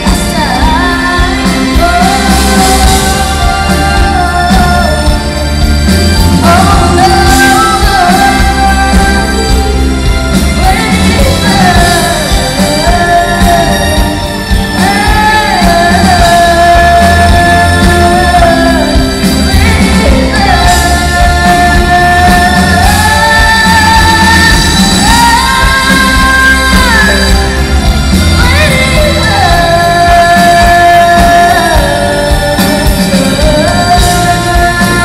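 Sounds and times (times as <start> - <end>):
pop-rock band playing: 0.0 - 35.0.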